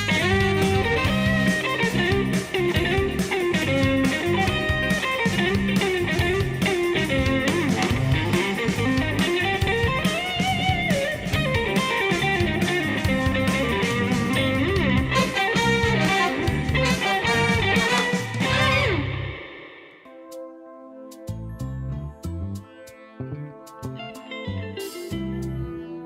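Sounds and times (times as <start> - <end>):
bass line: 0.0 - 19.6, 21.3 - 26.0
guitar melody: 0.0 - 20.2, 23.2 - 26.0.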